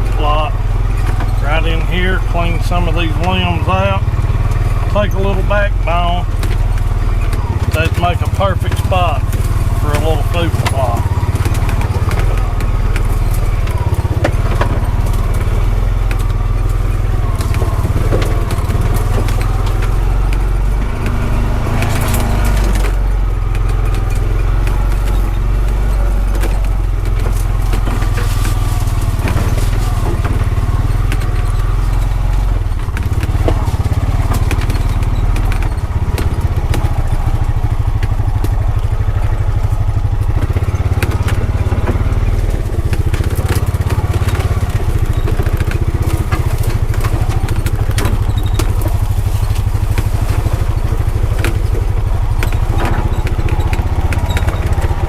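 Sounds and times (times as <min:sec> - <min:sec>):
clicks and rattles: 0:00.0 - 0:55.0
engine running steadily: 0:00.0 - 0:55.0.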